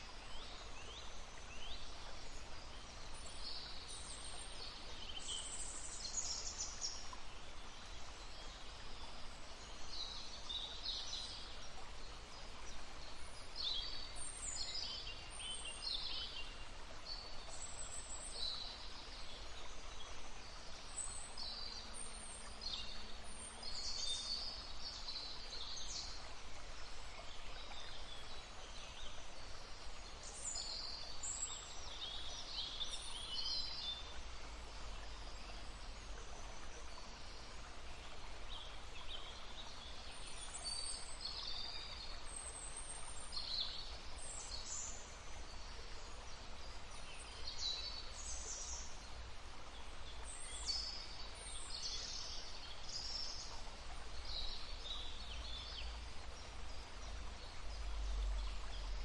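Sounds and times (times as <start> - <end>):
babbling brook: 0.0 - 59.0
songbirds singing: 0.0 - 59.0.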